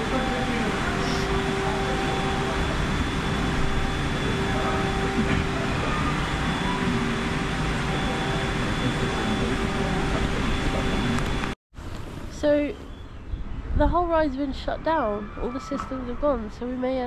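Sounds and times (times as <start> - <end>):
mechanical hum with tones: 0.0 - 17.0.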